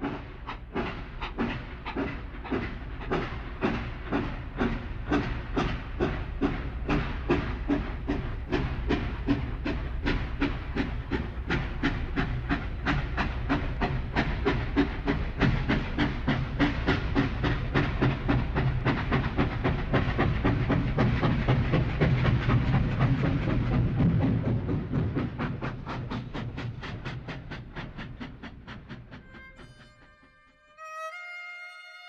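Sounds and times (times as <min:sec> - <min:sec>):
steam locomotive chuffing: 0:00.0 - 0:31.7.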